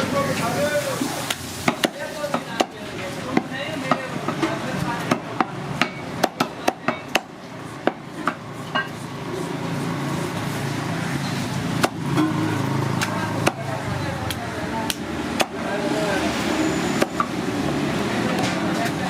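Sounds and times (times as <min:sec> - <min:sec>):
street traffic: 0:00.0 - 0:19.0
voices: 0:00.0 - 0:19.0.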